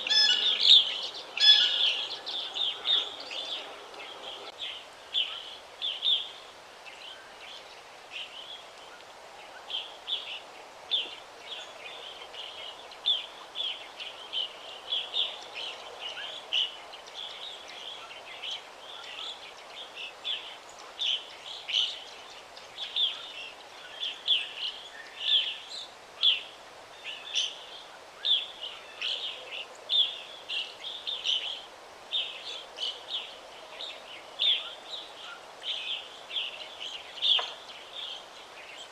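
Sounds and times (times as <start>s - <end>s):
faint steady background hiss: 0.0s - 38.9s
songbirds chirping: 0.0s - 38.9s.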